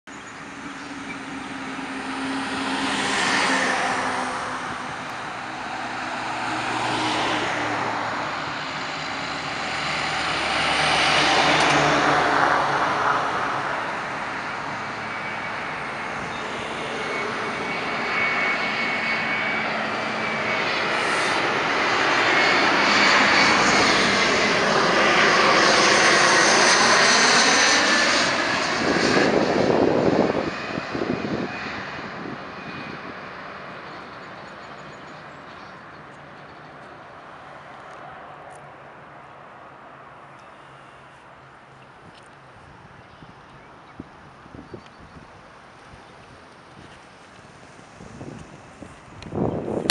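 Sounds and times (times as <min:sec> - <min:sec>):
jet engines whining: 0:00.1 - 0:43.0, 0:43.7 - 0:49.9
road traffic passing: 0:00.1 - 0:49.9.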